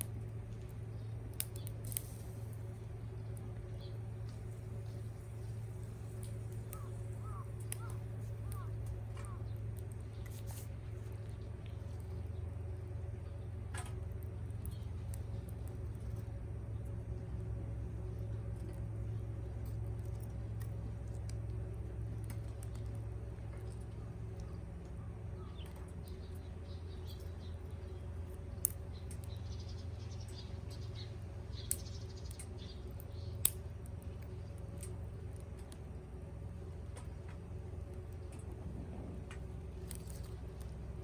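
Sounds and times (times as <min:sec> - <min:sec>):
campfire low rumble: 0:00.0 - 0:41.0
fire crackling pops: 0:00.0 - 0:41.0.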